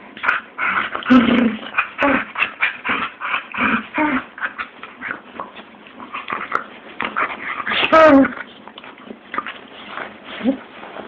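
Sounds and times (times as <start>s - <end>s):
dogs play-fighting vocal noises: 0.1s - 10.7s.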